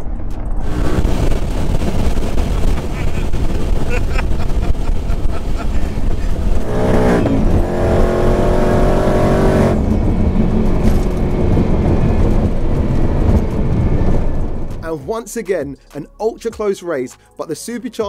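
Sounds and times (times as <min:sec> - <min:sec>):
car engine accelerating hard: 0:00.4 - 0:14.8.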